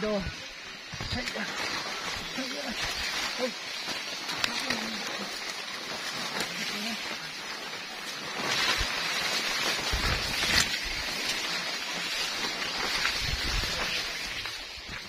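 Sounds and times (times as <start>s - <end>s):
leaves rustling and swishing: 0.0s - 15.0s.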